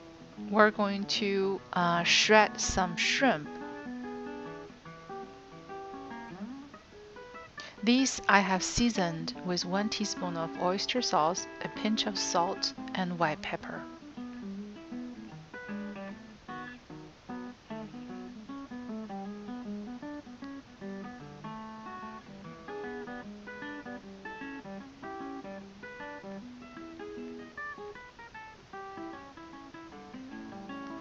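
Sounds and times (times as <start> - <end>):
acoustic guitar melody: 0.0 - 31.0.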